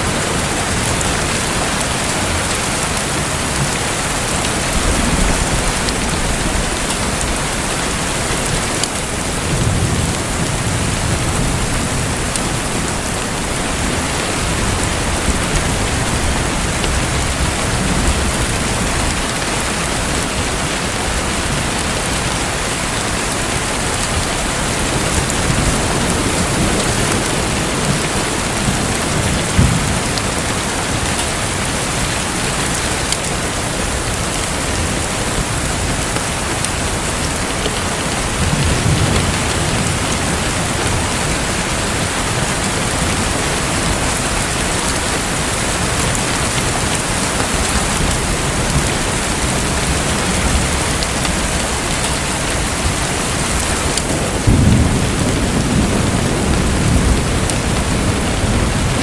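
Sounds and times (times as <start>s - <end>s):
pattering rain-like water: 0.0s - 59.0s.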